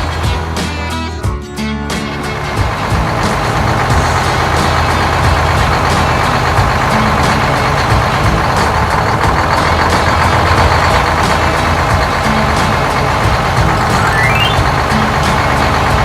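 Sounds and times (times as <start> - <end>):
farm vehicle engine running: 0.0 - 16.0.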